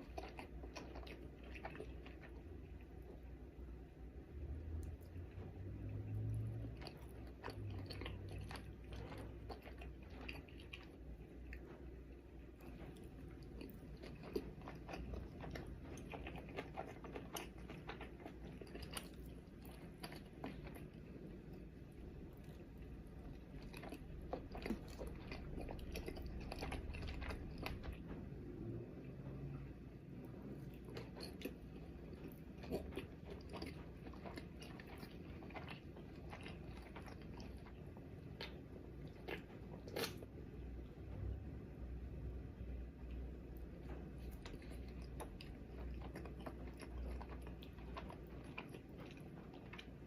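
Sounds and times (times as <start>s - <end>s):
person chewing food: 0.0s - 28.5s, 30.2s - 41.4s, 42.9s - 50.0s
steady low hum: 0.0s - 50.0s.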